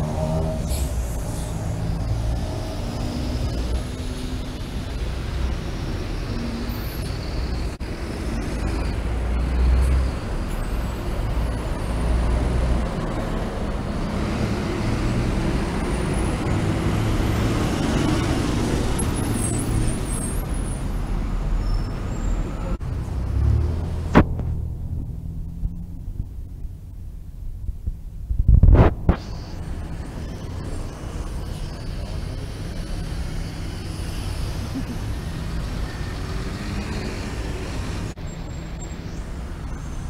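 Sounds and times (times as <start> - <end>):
vehicles passing on wet street: 0.0 - 27.2, 29.0 - 40.0.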